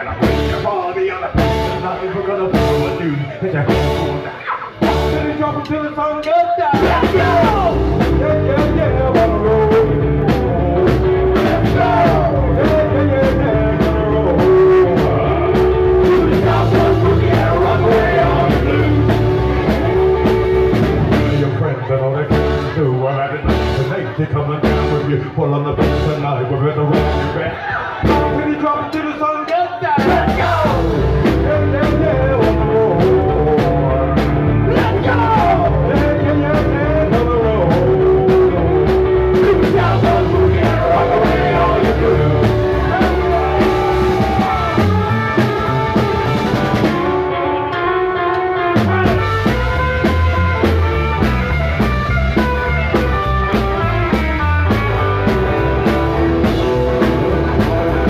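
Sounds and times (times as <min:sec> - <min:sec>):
steady drum beat: 0:00.0 - 0:03.0, 0:03.6 - 0:05.8, 0:06.6 - 0:21.6, 0:28.0 - 0:28.7, 0:29.9 - 0:47.3, 0:48.8 - 0:58.0
man singing: 0:00.0 - 0:47.7
live rock and roll band: 0:00.0 - 0:58.0.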